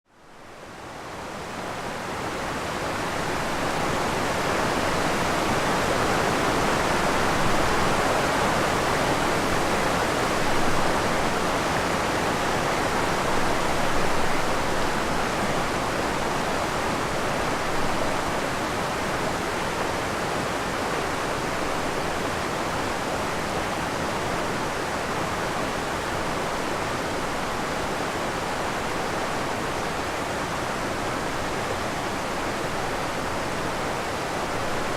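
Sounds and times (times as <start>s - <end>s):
waterfall rushing: 0.8s - 34.9s.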